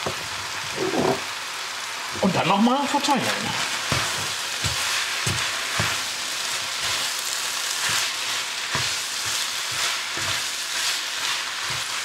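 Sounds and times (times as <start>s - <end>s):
noodles sizzling in wok: 0.0s - 12.0s.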